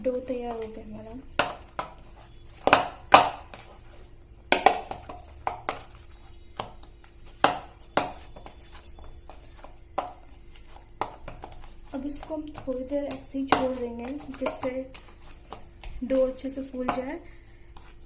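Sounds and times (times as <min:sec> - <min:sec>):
dough thudding against a bowl: 0:00.0 - 0:03.8, 0:04.4 - 0:18.0
faint steady hum: 0:00.0 - 0:18.0.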